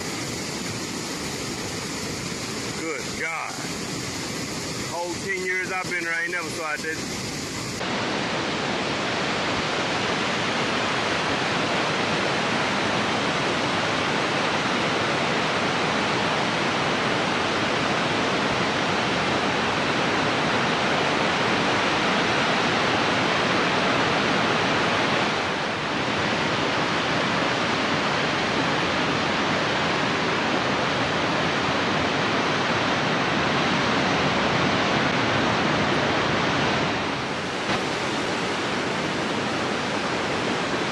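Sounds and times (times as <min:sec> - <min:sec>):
water rushing and crashing: 0:00.0 - 0:40.9.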